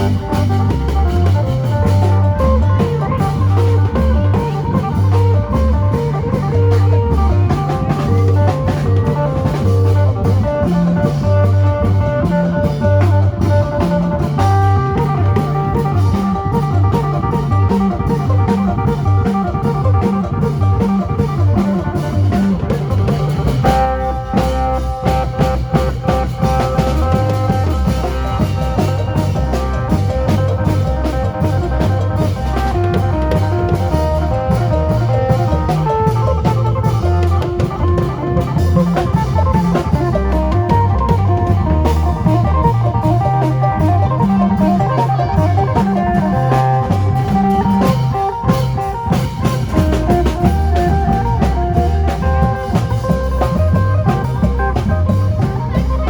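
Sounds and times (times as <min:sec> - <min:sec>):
drum kit and bass beat: 0:00.0 - 0:56.0.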